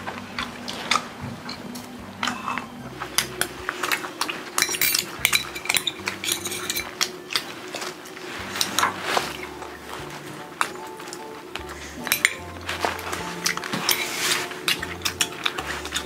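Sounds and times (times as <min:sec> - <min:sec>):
chopsticks clinking on metal bowls: 0:00.7 - 0:16.0.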